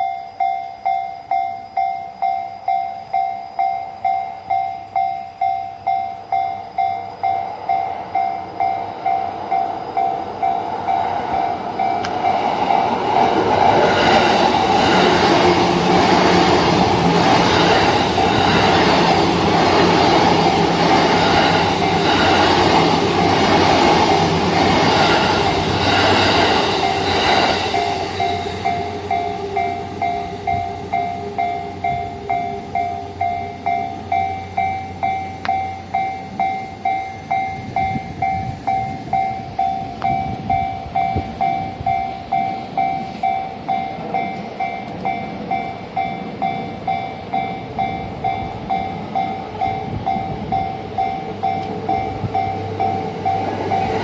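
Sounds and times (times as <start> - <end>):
crossing warning bell ringing: 0.0 - 54.0.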